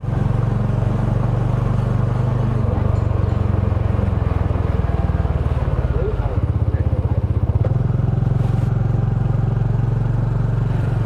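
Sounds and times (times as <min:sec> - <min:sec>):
motorbike engine idling: 0:00.0 - 0:10.3.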